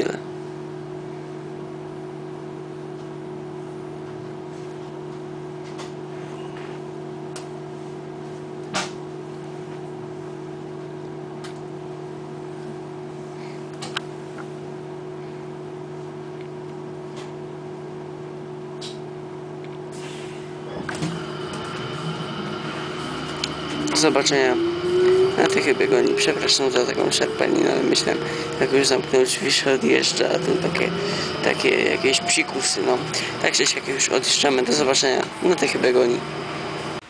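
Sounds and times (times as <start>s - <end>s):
trolleybus electric hum: 0.0s - 37.0s.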